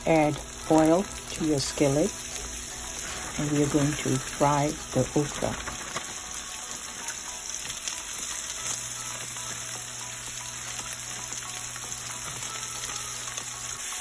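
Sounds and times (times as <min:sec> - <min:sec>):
okra frying in hot oil: 0:00.0 - 0:14.0.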